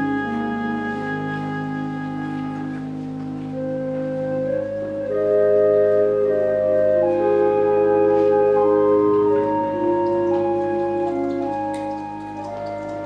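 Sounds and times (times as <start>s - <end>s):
organ playing slow piece: 0.0s - 13.0s.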